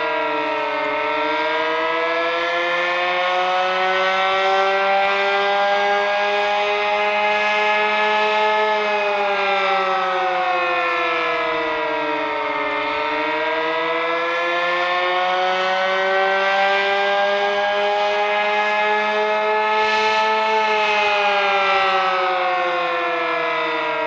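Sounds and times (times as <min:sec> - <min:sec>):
two-tone storm siren: 0:00.0 - 0:24.0.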